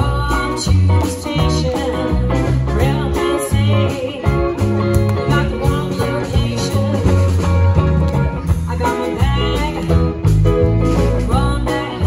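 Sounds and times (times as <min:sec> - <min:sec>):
bass line: 0:00.0 - 0:12.0
electric guitar lines: 0:00.0 - 0:12.0
steady drum beat: 0:00.0 - 0:12.0.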